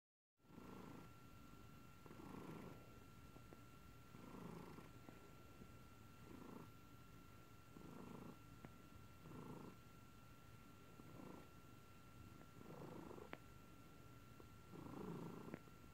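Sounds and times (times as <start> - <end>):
cat purring softly: 0.4 - 15.9.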